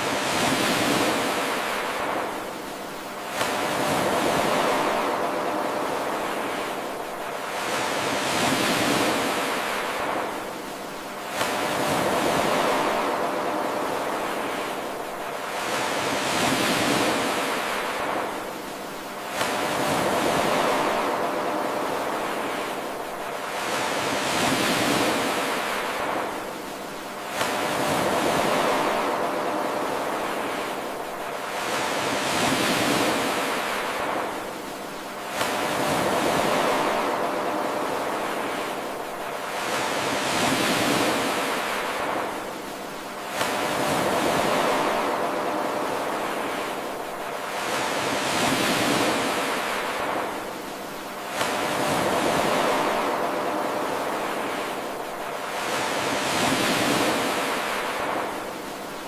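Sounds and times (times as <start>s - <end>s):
ocean waves washing in: 0.0s - 59.0s.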